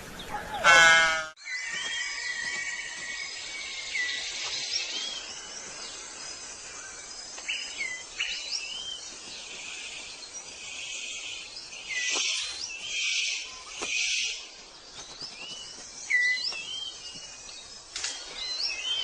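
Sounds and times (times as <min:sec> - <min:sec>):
birds chirping: 0:00.0 - 0:19.0
high insect-like hiss: 0:01.8 - 0:19.0.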